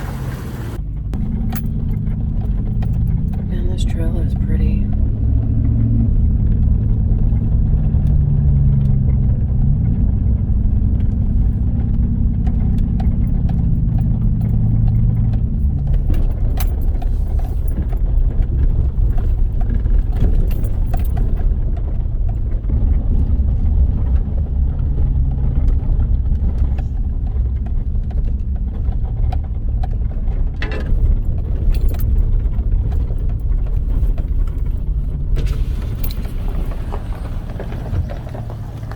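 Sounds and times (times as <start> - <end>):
low engine hum: 0.0 - 38.9
tyres rumbling on dirt: 0.0 - 38.9
vehicle clicks and rattles: 0.0 - 38.9.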